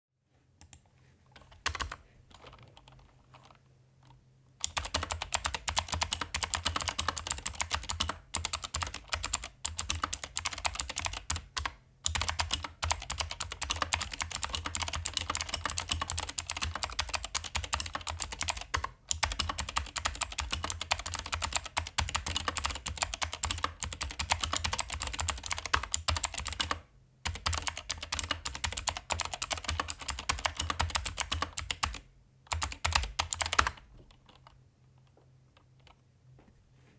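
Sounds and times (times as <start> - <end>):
mechanical keyboard typing: 1.4 - 35.1.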